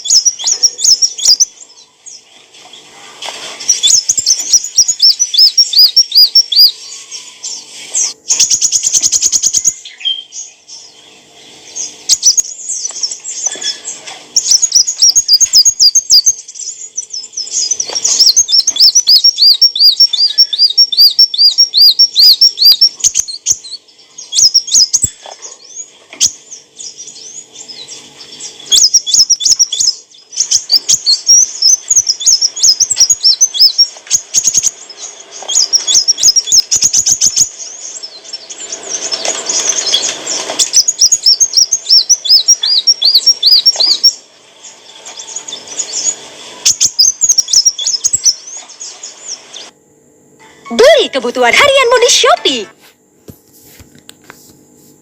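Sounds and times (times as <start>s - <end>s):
bird chirping in fast trills: 0.0s - 49.7s, 50.8s - 52.6s.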